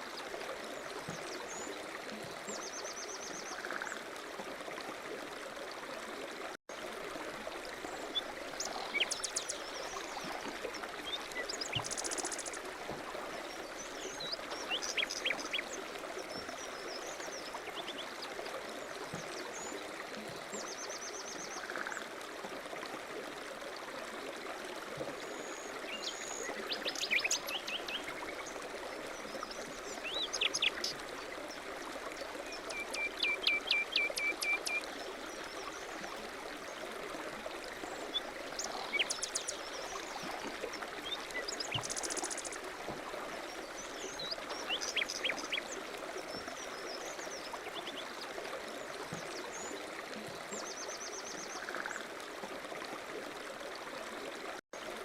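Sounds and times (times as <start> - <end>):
running stream: 0.0 - 55.0.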